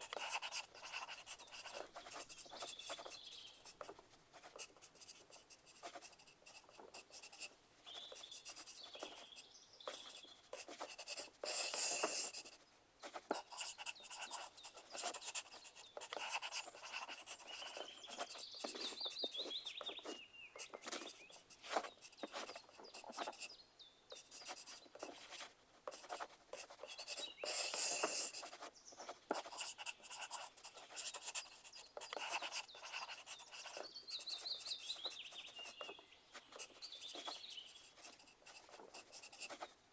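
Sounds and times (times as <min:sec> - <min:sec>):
pencils scratching on paper: 0:00.0 - 0:23.5, 0:24.1 - 0:39.8.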